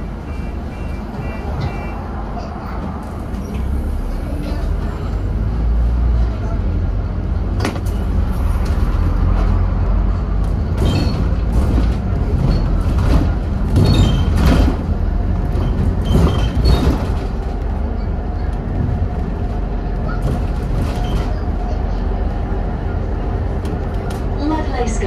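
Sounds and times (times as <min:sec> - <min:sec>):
bus body rattles and squeaks: 0:00.0 - 0:25.0
bus diesel engine droning: 0:00.0 - 0:25.0.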